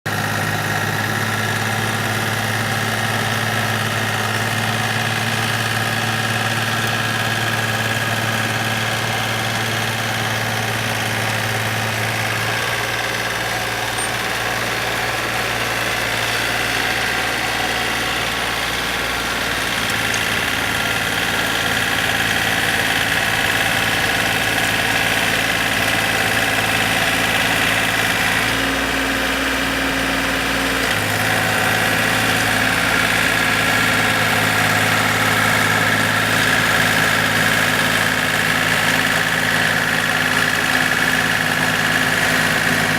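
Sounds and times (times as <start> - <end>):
plowing machine engine running: 0.1 - 42.9.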